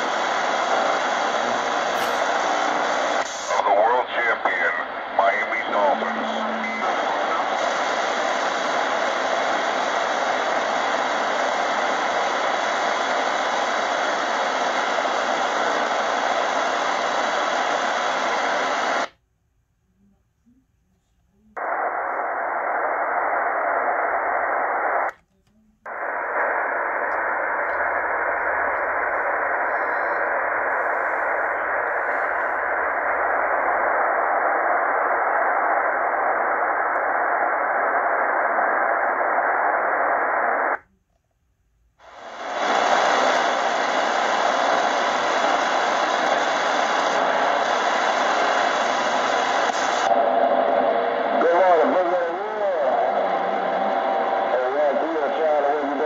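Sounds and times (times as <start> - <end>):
radio static hiss: 0.0 - 19.2, 21.3 - 40.9, 42.0 - 56.0.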